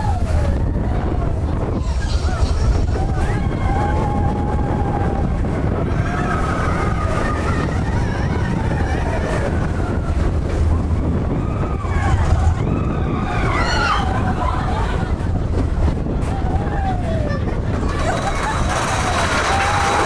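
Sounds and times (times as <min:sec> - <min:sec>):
roller coaster train rumbling: 0:00.0 - 0:20.0
wind rushing over microphone: 0:00.0 - 0:20.0.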